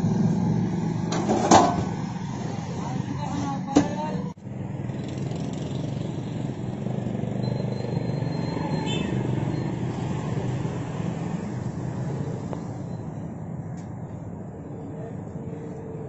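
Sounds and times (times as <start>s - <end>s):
engines and street traffic rumble: 0.0s - 16.0s.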